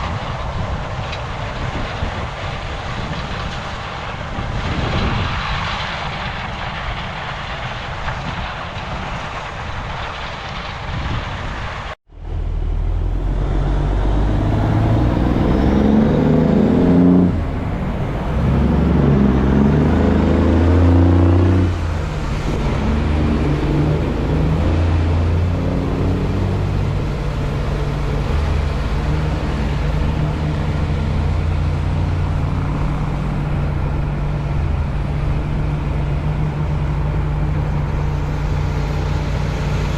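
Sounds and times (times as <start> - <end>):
diesel harvester droning: 0.0 - 39.9
steady rushing noise: 0.0 - 39.9.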